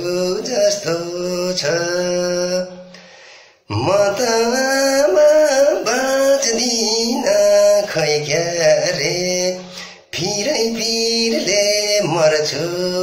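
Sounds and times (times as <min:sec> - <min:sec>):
man singing unaccompanied: 0:00.0 - 0:03.0, 0:03.6 - 0:13.0.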